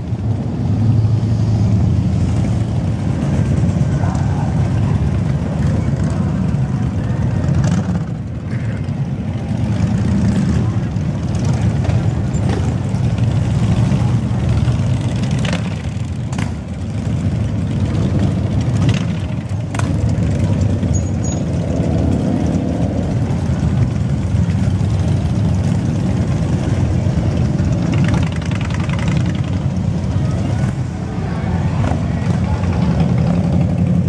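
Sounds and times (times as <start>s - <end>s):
motorcycle engines cruising: 0.0s - 34.0s.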